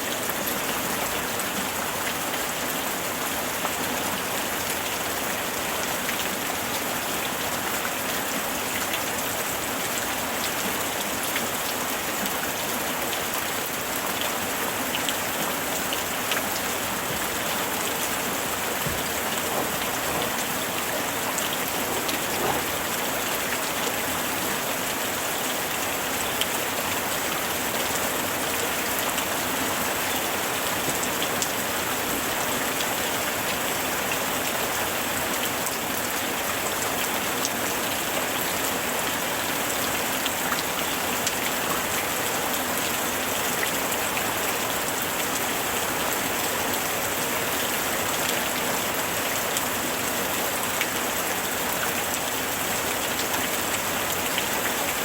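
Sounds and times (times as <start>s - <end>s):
rain falling on surfaces: 0.0s - 55.0s.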